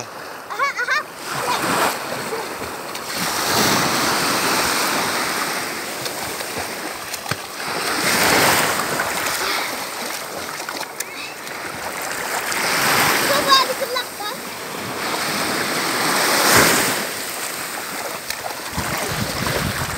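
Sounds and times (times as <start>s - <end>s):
small waves washing: 0.0s - 19.9s
swimmers splashing: 0.6s - 19.9s.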